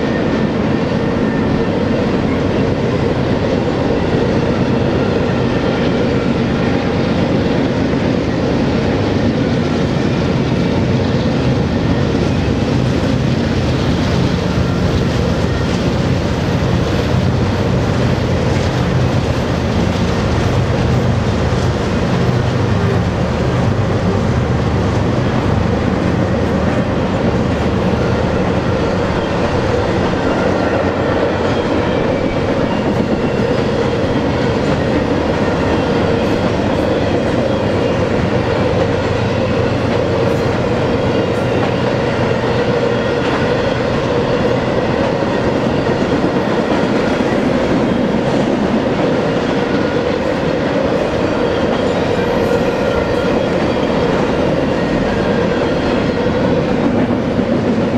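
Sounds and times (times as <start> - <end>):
steel wheels on rail: 0.0 - 57.9.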